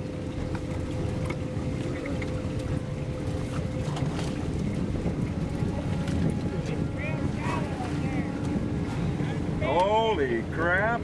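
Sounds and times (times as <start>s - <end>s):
steady low hum: 0.0s - 11.0s
wind rumbling on microphone: 0.0s - 11.0s.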